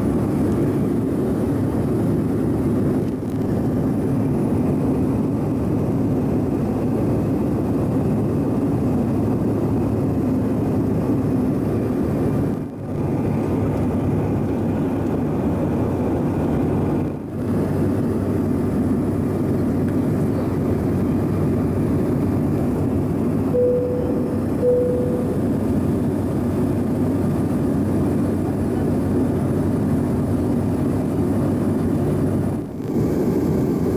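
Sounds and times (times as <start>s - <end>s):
jet cabin rushing noise: 0.0s - 28.5s
faint turbofan hum: 0.0s - 33.9s.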